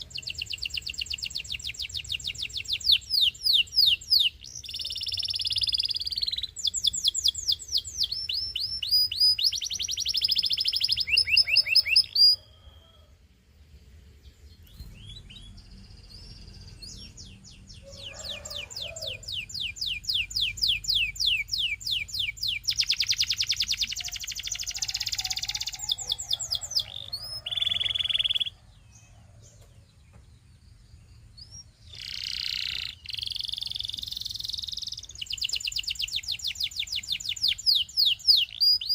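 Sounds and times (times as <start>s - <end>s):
canary singing trills: 0.0s - 13.0s, 14.2s - 38.9s.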